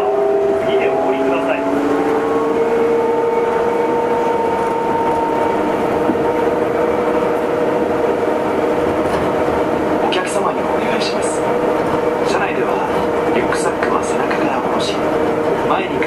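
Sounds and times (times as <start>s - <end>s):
train whine: 0.0s - 16.0s
tyres rumbling on guideway: 0.0s - 16.0s.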